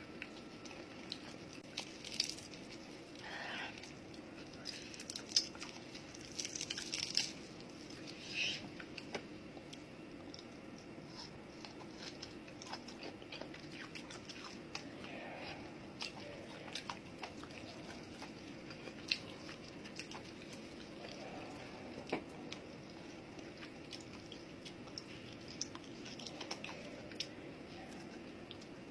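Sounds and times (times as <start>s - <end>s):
low steady hum: 0.0s - 28.9s
person chewing food: 0.0s - 28.9s.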